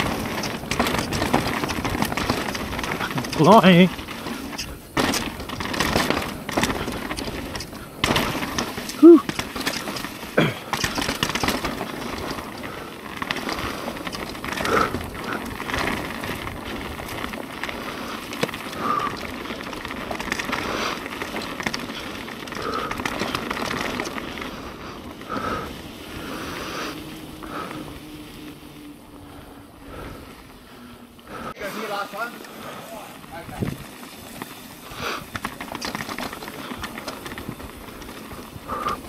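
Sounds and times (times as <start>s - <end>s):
bike rattling over bumps: 0.0s - 39.0s
bike tyres rolling on dirt: 0.0s - 39.0s.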